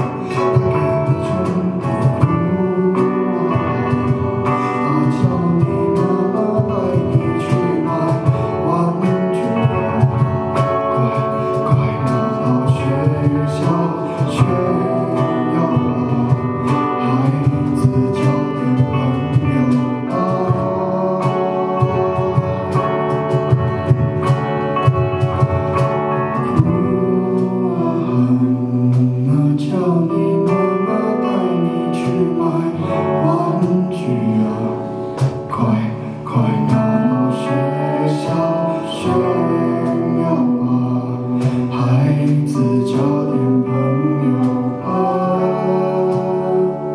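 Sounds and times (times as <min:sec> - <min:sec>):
acoustic guitars playing: 0:00.0 - 0:46.9
cajon beat: 0:00.0 - 0:46.9
person singing: 0:00.0 - 0:46.9.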